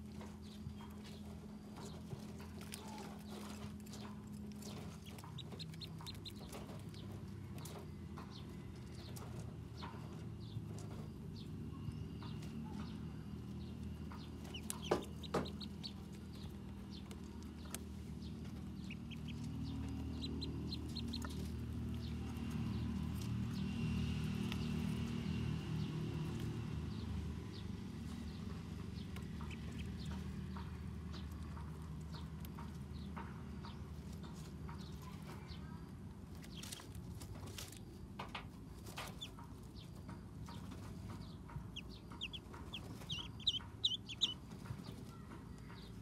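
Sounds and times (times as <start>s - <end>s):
ducklings peeping: 0.0s - 46.0s
low steady hum: 0.0s - 46.0s.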